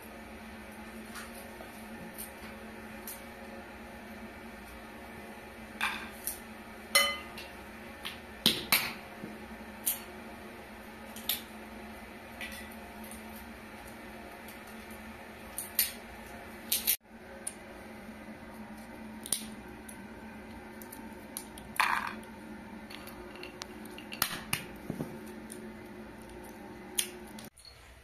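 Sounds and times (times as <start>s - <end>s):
faint hum: 0.0s - 28.0s.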